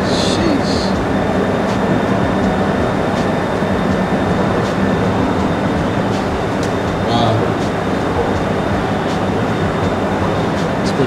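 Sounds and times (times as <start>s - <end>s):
loud rumbling with low hum: 0.0s - 11.0s.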